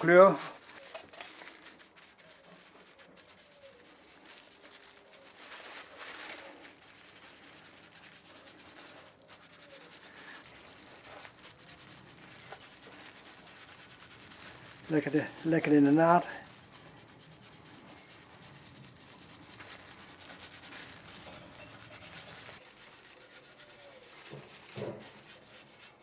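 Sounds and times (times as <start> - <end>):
brush rubbing wood: 0.0 - 26.0.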